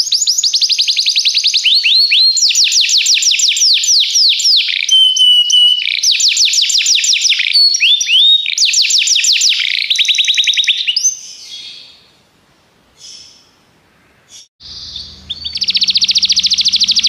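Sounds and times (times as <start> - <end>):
canary singing: 0.0 - 12.0, 14.3 - 17.0.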